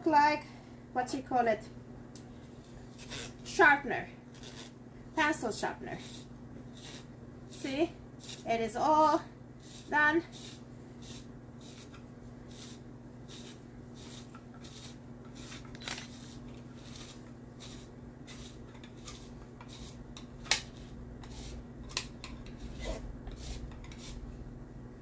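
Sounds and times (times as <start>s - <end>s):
spiralizer blade rasping scrapes: 2.4s - 24.3s.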